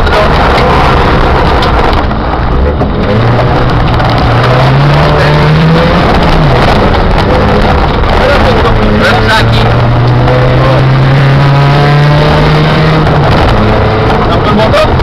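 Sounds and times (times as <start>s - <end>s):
car engine accelerating: 0.0s - 15.0s
tyres rumbling on rough track: 0.0s - 15.0s.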